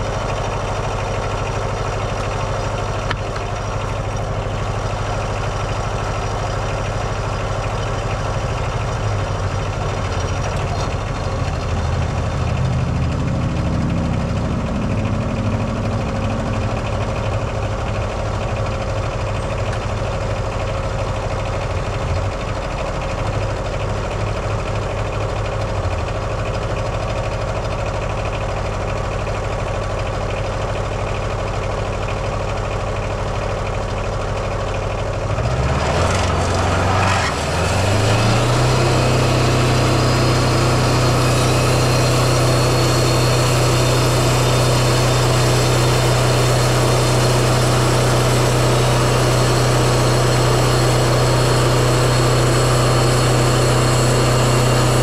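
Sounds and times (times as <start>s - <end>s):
diesel engine running and revving: 0.0s - 55.0s.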